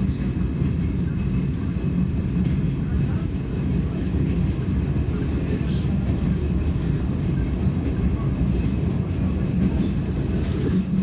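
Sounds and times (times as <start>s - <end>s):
train rumbling along the track: 0.0s - 11.0s.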